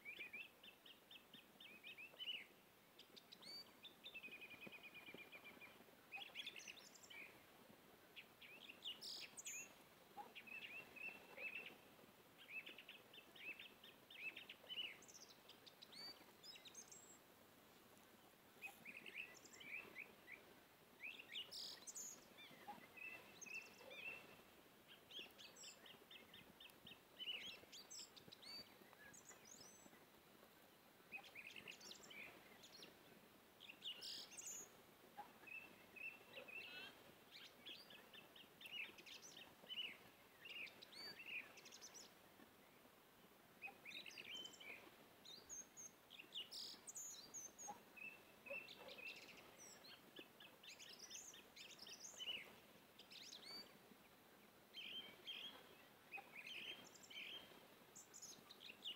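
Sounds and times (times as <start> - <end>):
low hiss: 0.0 - 58.9
small birds chirping and trilling: 0.0 - 58.9.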